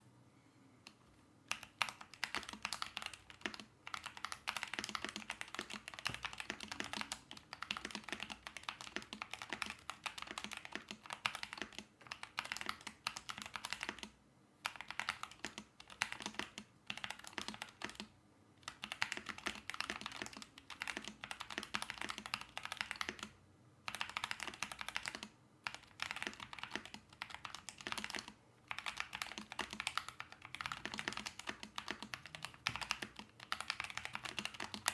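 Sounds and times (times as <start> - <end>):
mechanical keyboard typing: 1.5 - 34.9.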